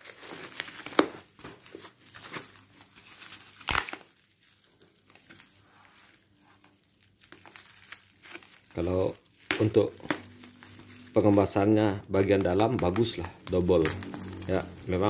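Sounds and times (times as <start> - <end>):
plastic ripping: 0.0 - 15.0
plastic wrapping crinkling: 0.0 - 15.0.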